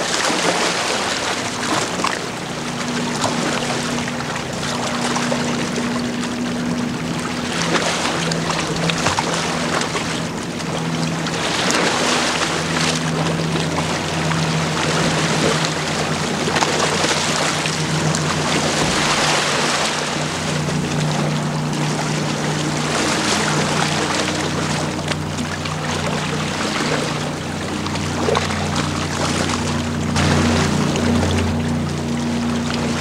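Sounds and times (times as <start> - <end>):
low ship engine drone: 0.0 - 33.0
water lapping against shore: 0.0 - 33.0
wind: 0.0 - 33.0.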